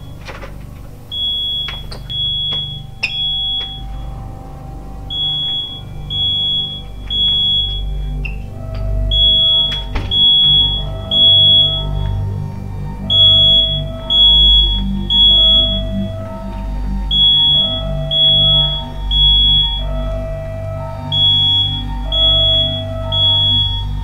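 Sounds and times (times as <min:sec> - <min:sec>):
low rumbling music: 0:00.0 - 0:24.0
fire alarm beeping: 0:01.1 - 0:24.0.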